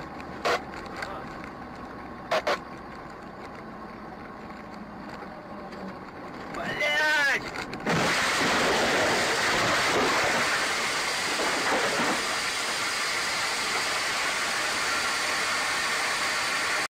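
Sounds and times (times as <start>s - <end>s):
vehicle road and engine noise: 0.0s - 16.9s.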